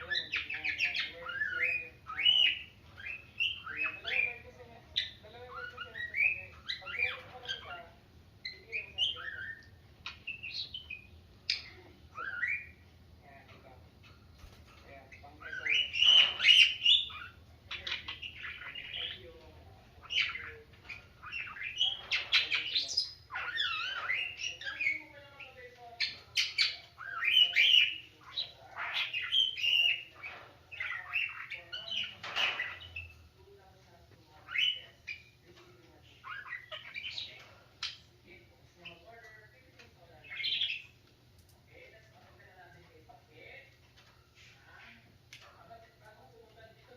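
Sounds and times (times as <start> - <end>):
birds chirping and squawking: 0.0 - 46.9.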